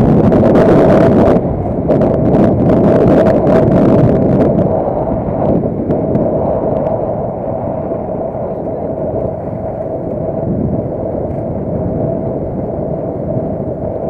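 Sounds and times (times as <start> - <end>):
vehicle engine whining: 0.0 - 14.0
wind buffeting microphone: 0.0 - 14.0.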